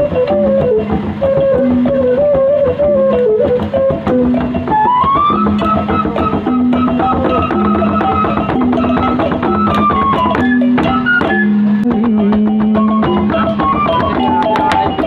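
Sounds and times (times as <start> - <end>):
drums beaten with sticks: 0.0 - 15.0
held pitched melody notes: 0.0 - 15.0.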